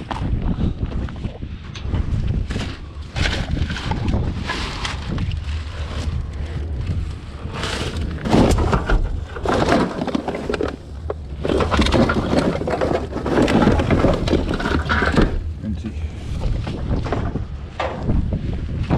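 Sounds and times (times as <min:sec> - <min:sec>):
steady low rumble: 0:00.0 - 0:18.9
rubbish rustling and clattering: 0:02.0 - 0:18.0.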